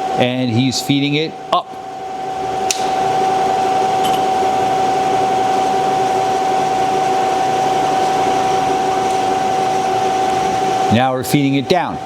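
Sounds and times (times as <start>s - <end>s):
mechanical hum: 0.0s - 12.0s
milling machine spindle whine: 0.0s - 12.0s.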